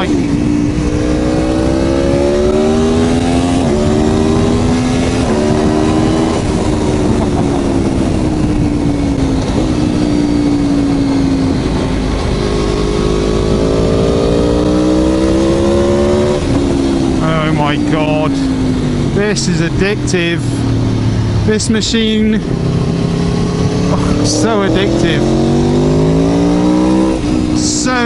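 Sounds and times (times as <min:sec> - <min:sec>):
motorcycle engine accelerating: 0:00.0 - 0:28.0
wind rush: 0:00.0 - 0:28.0.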